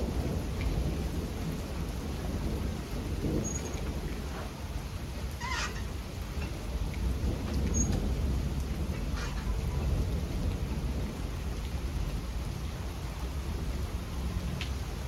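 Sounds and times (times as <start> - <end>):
steady rain falling: 0.0 - 15.0
thunder rumbling: 0.0 - 15.0.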